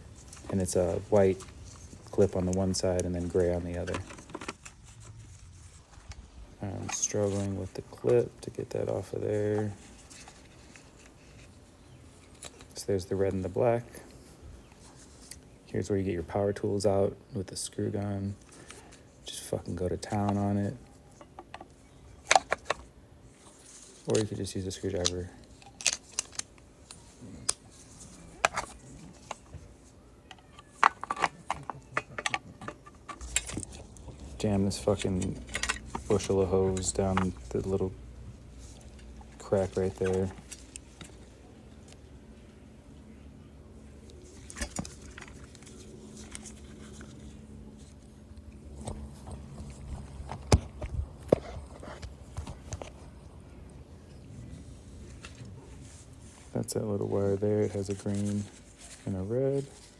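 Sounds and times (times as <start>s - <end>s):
clicks taps and rustles: 0.1s - 13.4s, 18.4s - 42.5s, 43.8s - 59.9s.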